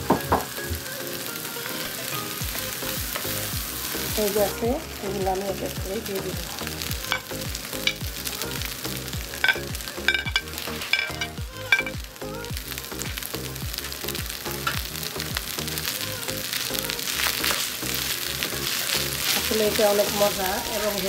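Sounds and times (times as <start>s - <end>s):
background music with beat: 0.0s - 21.0s
fried rice sizzling: 0.0s - 21.0s.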